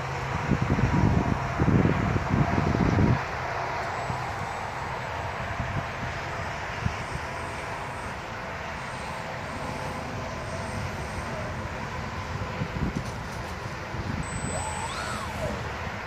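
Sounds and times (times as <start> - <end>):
model plane motor humming: 3.0 - 16.0.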